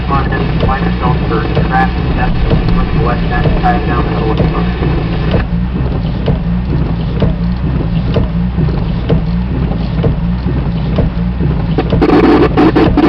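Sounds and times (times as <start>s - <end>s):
radio channel hum and buzz: 0.0s - 13.0s.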